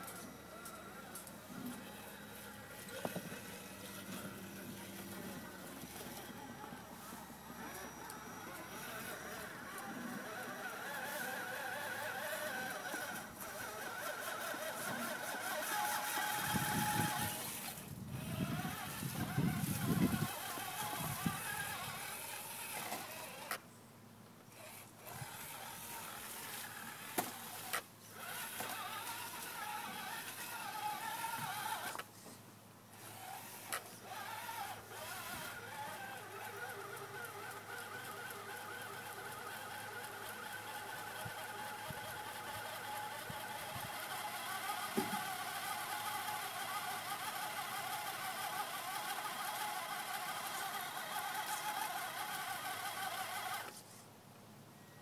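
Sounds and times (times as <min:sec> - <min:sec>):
electric motor and gears whining: 0:00.0 - 0:23.6, 0:24.5 - 0:32.1, 0:32.9 - 0:53.8.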